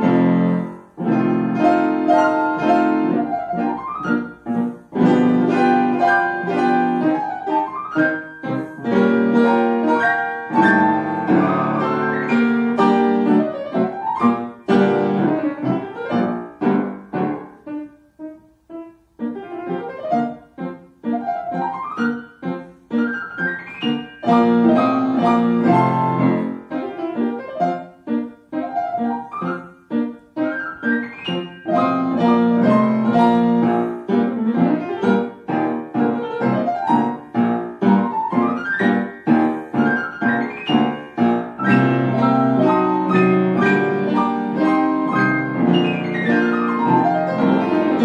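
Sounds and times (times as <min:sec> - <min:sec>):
solo piano piece: 0:00.0 - 0:48.0.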